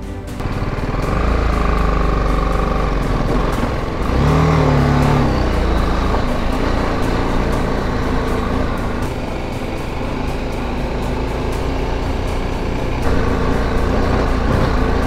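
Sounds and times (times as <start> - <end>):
motorcycle engine pulling uphill: 0.0 - 15.0.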